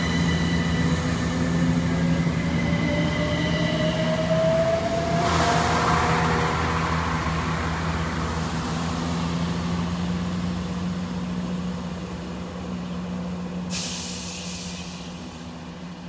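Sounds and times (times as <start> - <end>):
electric train rushing past: 0.0 - 16.0.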